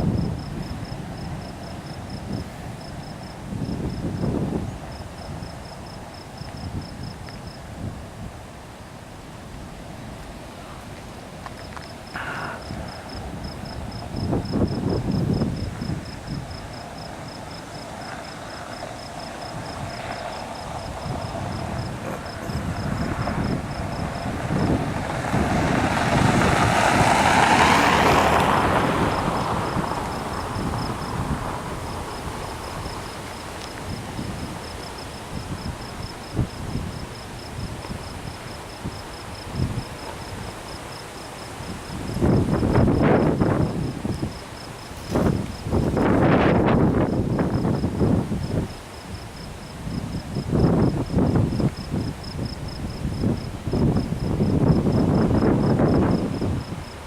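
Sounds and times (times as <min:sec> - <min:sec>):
cricket chirping: 0:00.0 - 0:07.7, 0:11.5 - 0:57.0
rush of noise: 0:07.5 - 0:57.0.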